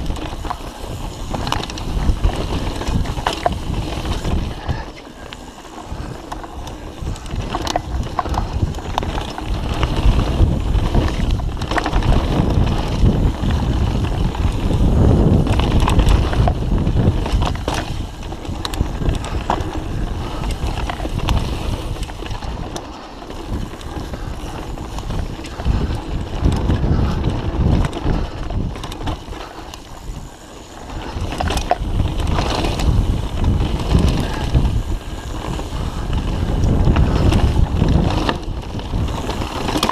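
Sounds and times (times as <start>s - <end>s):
bike clicks and rattles: 0.0s - 39.9s
tyre rumble on dirt trail: 0.0s - 39.9s
wind buffeting microphone: 0.0s - 39.9s.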